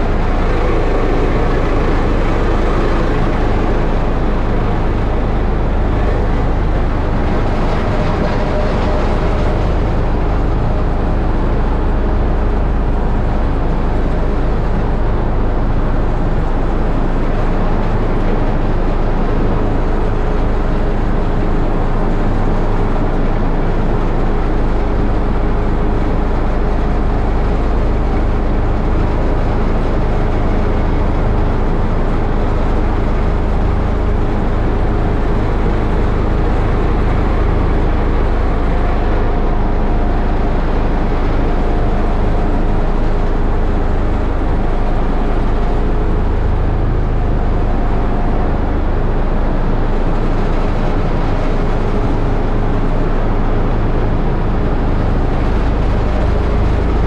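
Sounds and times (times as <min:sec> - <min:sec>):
roller compactor engine running: 0:00.0 - 0:57.0.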